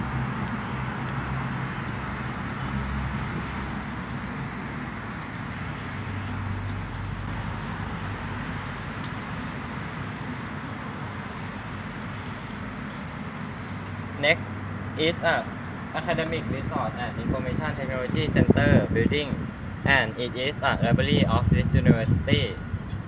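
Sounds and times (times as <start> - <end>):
road and wind noise: 0.0 - 23.0
vehicle engine hum: 0.0 - 23.0.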